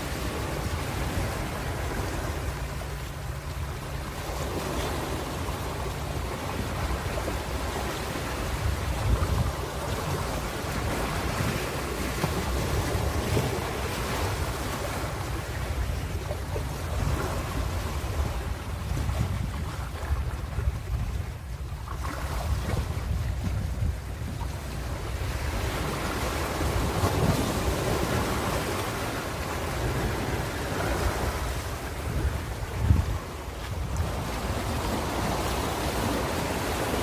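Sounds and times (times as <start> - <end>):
ocean waves washing: 0.0 - 37.0.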